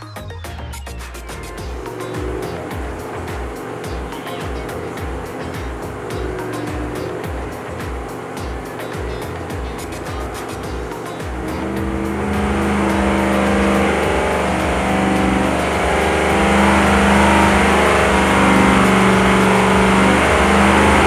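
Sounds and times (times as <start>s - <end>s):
engine running under load: 1.6s - 21.0s.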